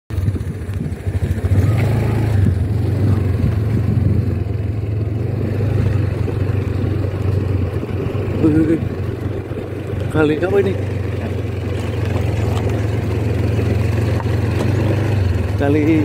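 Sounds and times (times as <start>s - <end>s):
motorcycle engine running: 0.1s - 16.0s.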